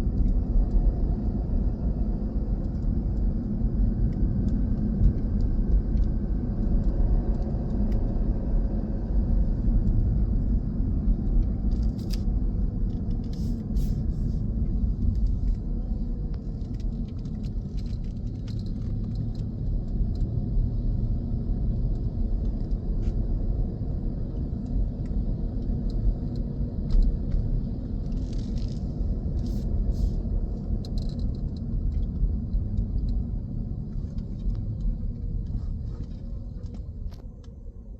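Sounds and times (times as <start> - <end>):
car driving rumble: 0.0 - 37.9.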